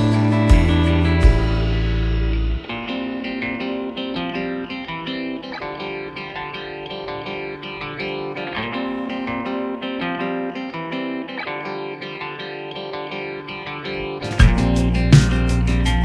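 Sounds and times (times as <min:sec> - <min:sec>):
guitar chords: 0:00.0 - 0:16.0.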